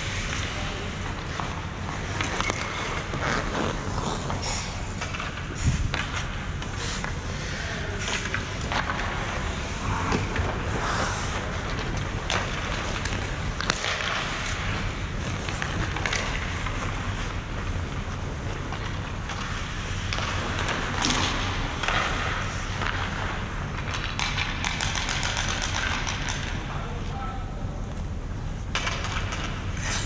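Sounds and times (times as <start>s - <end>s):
skate blades scraping ice: 0.0s - 26.6s, 28.8s - 30.0s
hockey sticks and pucks clacking: 0.0s - 27.0s, 28.7s - 30.0s.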